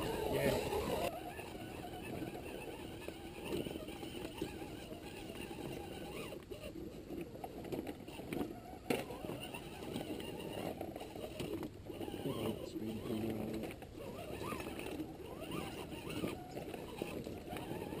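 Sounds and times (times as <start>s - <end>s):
electric motor and gears running: 0.0s - 18.0s
wheels over loose rocks: 0.0s - 18.0s.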